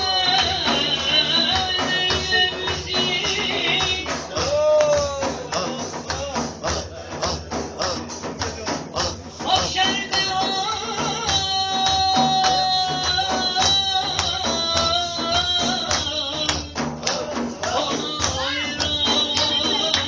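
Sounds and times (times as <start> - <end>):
hand drum with jingles: 0.0 - 20.0.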